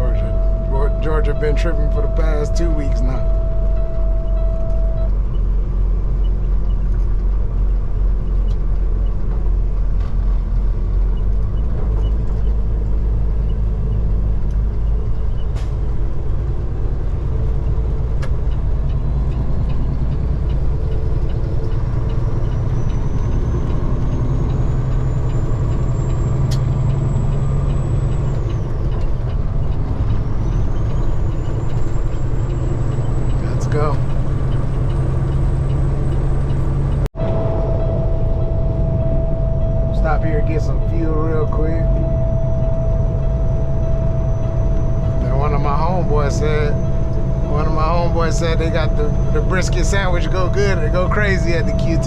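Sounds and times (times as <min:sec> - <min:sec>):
high engine whine: 0:00.0 - 0:52.0
road noise: 0:00.0 - 0:52.0
truck diesel engine rumble: 0:00.0 - 0:52.0.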